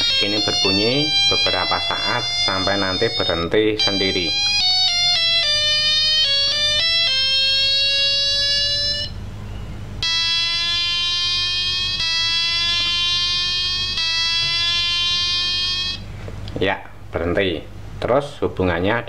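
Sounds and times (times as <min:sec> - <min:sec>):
electronic chime melody: 0:00.0 - 0:16.1.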